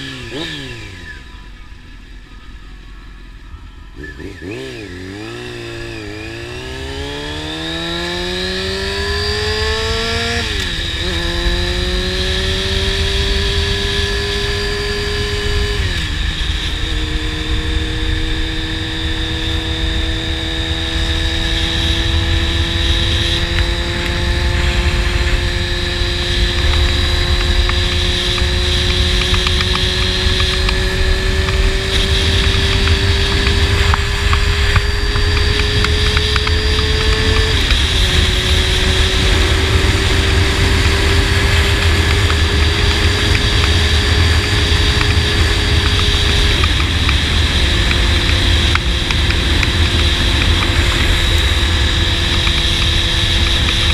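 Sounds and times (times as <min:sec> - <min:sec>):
sport bike engine revving: 0:00.0 - 0:02.6, 0:03.8 - 0:53.9
wind rumble on microphone: 0:07.0 - 0:53.9.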